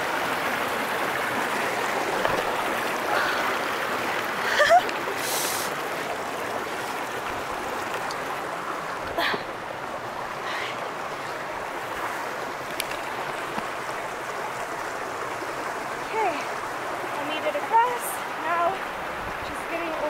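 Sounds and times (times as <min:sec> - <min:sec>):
creek water running over rocks: 0:00.0 - 0:20.0.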